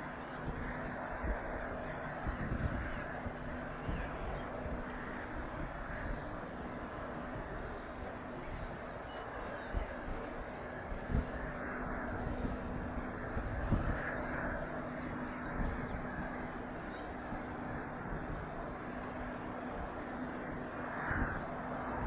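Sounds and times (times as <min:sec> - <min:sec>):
distant jet engines running: 0:00.0 - 0:22.0.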